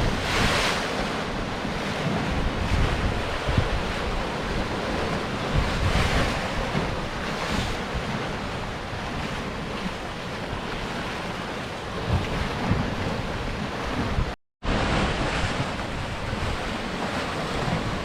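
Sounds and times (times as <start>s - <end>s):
surf washing against rocks: 0.0s - 18.0s
wind buffeting microphone: 0.0s - 18.0s.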